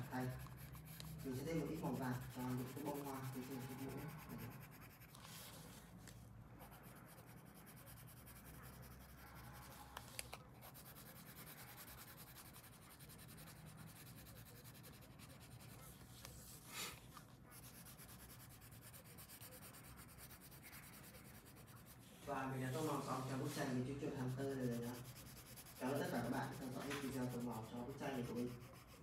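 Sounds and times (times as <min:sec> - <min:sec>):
pencil scratching on paper: 0:00.0 - 0:05.9, 0:06.6 - 0:16.6, 0:17.5 - 0:29.0.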